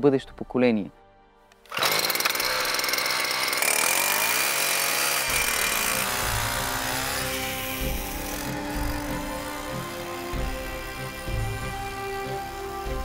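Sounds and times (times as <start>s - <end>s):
small two-stroke engine whining: 1.7s - 13.0s.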